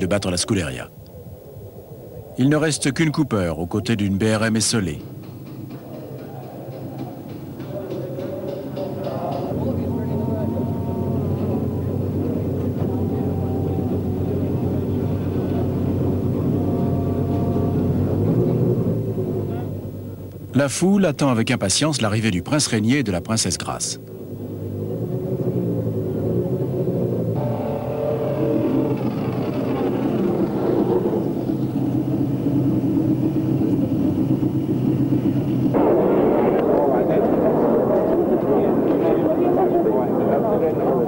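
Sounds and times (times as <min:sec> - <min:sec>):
racing car engines droning: 0:00.0 - 0:41.0.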